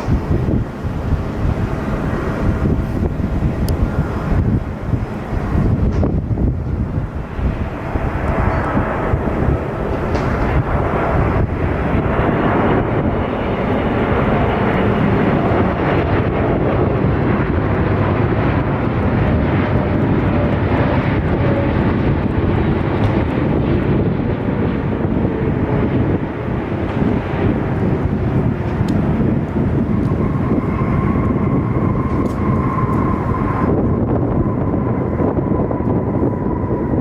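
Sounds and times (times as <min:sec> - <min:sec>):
jet airliner engines: 0:00.0 - 0:37.0.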